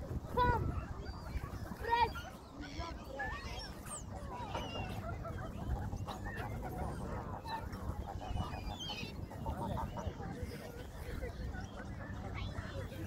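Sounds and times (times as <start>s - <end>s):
waterbirds honking and squawking: 0.0s - 13.0s.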